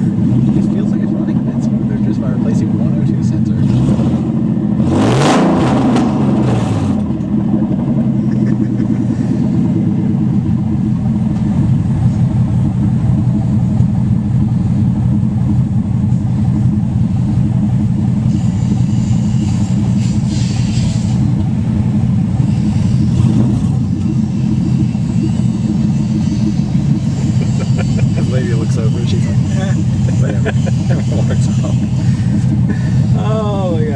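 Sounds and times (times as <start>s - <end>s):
car engine droning: 0.0s - 33.9s.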